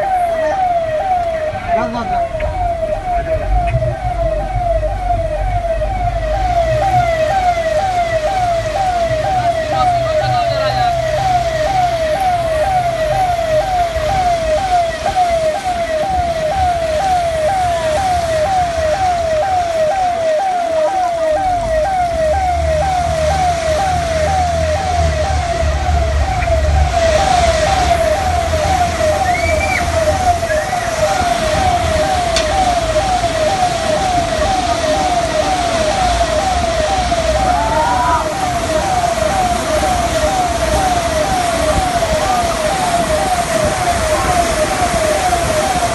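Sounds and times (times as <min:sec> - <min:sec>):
electronic siren cycling: 0:00.0 - 0:45.9.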